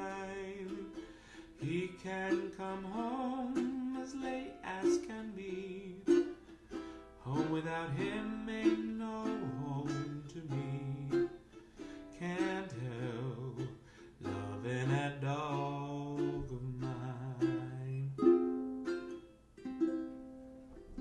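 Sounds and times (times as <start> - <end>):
person singing with vibrato: 0.0 - 18.9
plucked string chords: 0.0 - 21.0.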